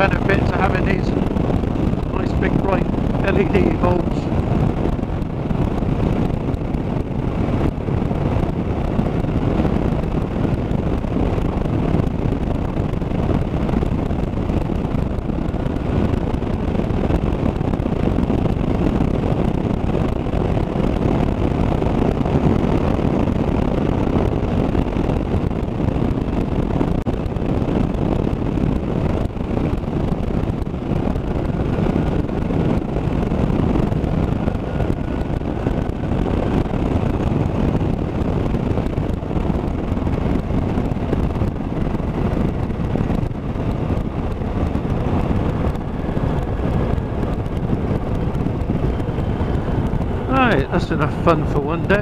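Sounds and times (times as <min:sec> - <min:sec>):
motorcycle engine: 0:00.0 - 0:52.0
wind rushing over microphone: 0:00.0 - 0:52.0.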